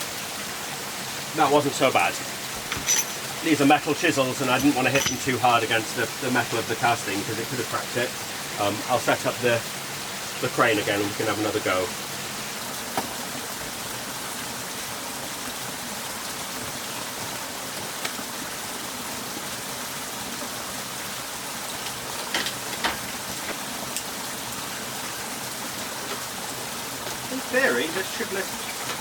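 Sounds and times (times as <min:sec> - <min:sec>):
hiss of running water: 0:00.0 - 0:29.0.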